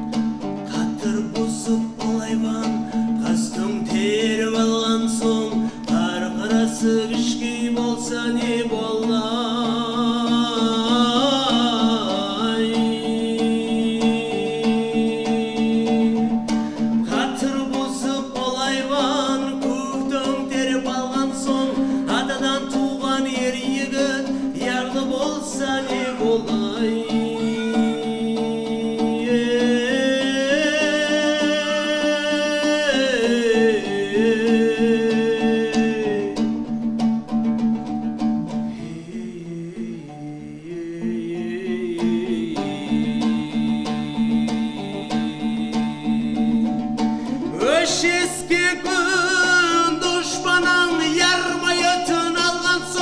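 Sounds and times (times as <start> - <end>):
man singing: 0.0 - 36.8, 38.7 - 53.0
plucked lutes strumming: 0.0 - 53.0.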